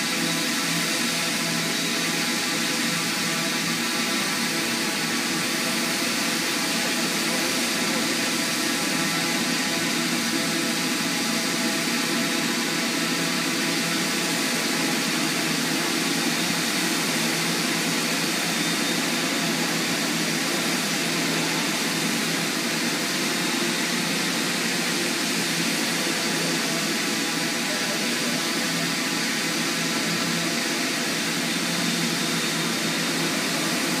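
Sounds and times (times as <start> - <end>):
drone propellers whirring: 0.0 - 34.0.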